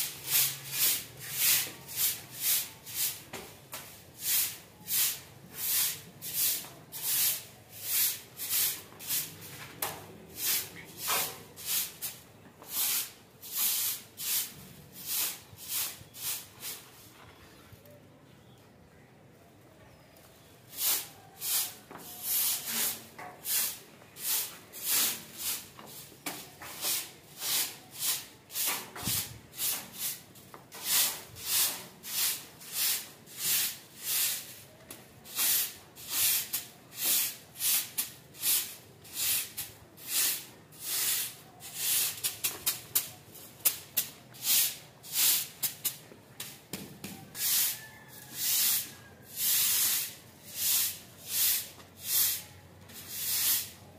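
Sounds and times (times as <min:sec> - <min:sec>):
broom sweeping concrete floor: 0:00.0 - 0:17.6, 0:20.7 - 0:53.9.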